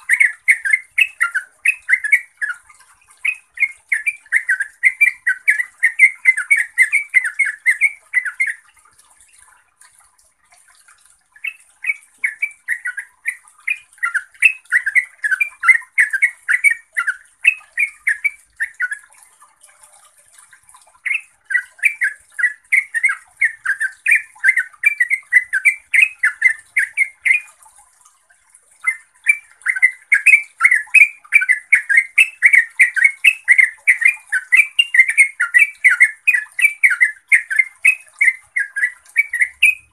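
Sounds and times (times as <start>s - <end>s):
bird singing chattering notes: 0.0s - 8.6s, 11.4s - 19.1s, 21.0s - 27.5s, 28.8s - 39.9s.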